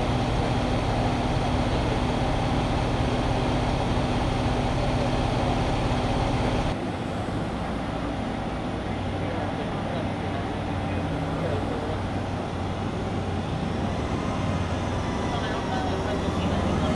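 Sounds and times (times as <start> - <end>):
truck engine idling hum: 0.0 - 16.9.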